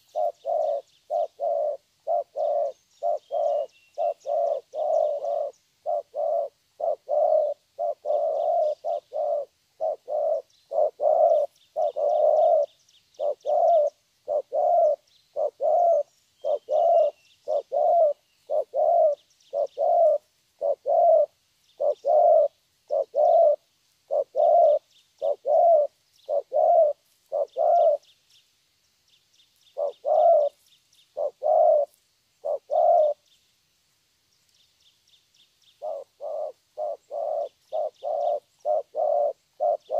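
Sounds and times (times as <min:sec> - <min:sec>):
dove cooing: 0:00.0 - 0:28.1, 0:29.7 - 0:33.3, 0:35.8 - 0:39.9.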